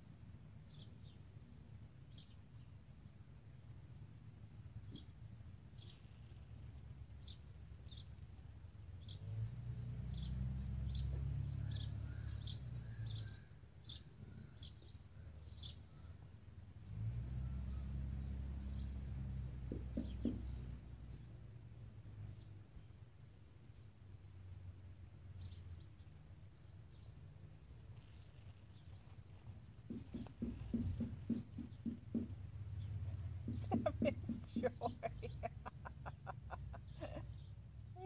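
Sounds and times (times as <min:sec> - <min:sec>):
sparrow chirping: 0:04.8 - 0:21.3, 0:22.3 - 0:38.0.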